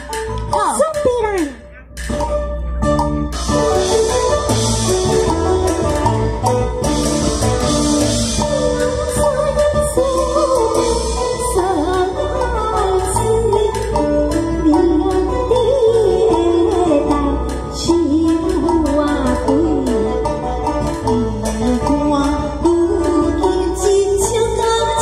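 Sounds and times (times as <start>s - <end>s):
plucked strings and band: 0.0s - 25.0s.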